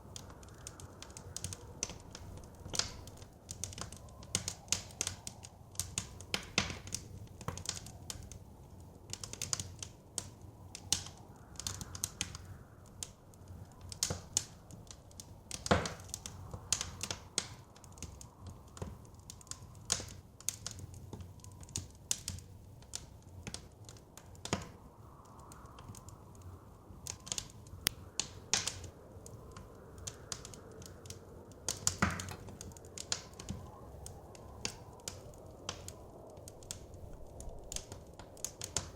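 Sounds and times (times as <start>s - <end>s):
soft wind: 0.0s - 38.9s
wood fire crackling: 0.0s - 38.9s.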